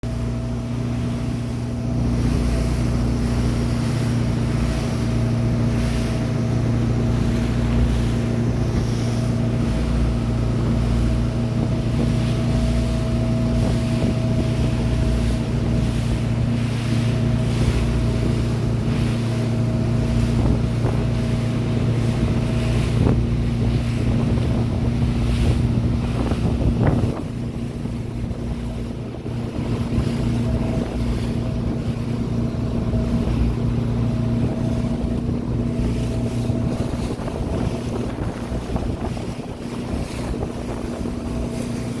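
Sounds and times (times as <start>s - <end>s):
motorboat engine humming: 0.0s - 42.0s
water noise: 0.0s - 42.0s
wind buffeting microphone: 0.0s - 42.0s.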